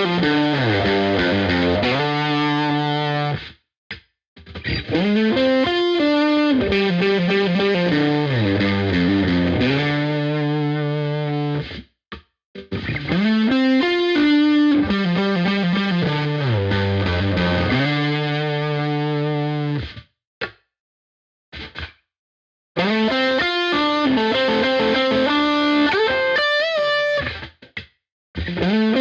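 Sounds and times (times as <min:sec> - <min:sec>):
distorted electric guitar riff: 0:00.0 - 0:03.4, 0:04.4 - 0:11.8, 0:12.6 - 0:19.9, 0:22.8 - 0:27.5, 0:28.4 - 0:29.0.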